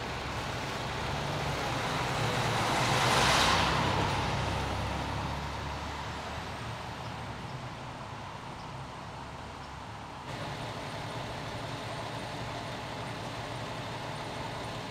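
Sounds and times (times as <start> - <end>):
fire truck engine running: 0.0 - 3.2, 3.8 - 14.9.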